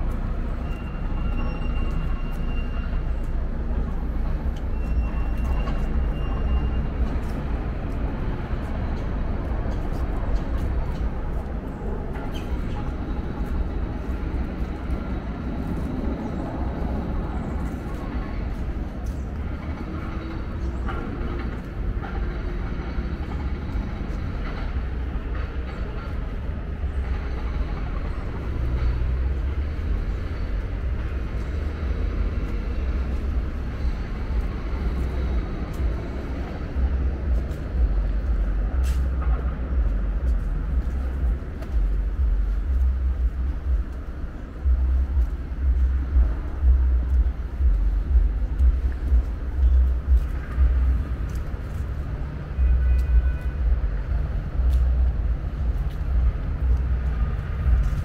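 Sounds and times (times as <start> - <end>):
low uneven rumble: 9.2 - 58.0.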